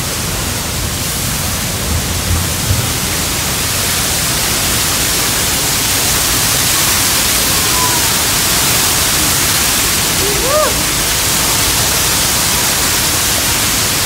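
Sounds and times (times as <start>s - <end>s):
roar of falling water: 0.0s - 14.0s.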